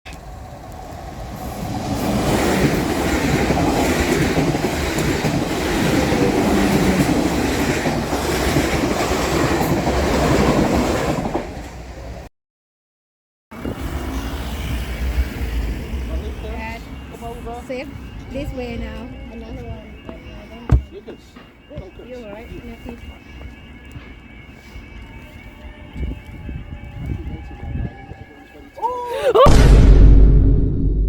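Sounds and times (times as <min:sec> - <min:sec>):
train passing close by: 0:00.1 - 0:12.3, 0:13.5 - 0:29.2.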